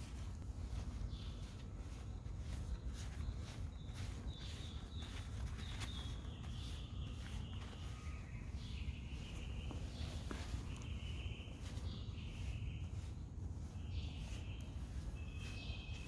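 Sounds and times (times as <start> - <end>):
paper towel rubbing fur: 0.0 - 16.0.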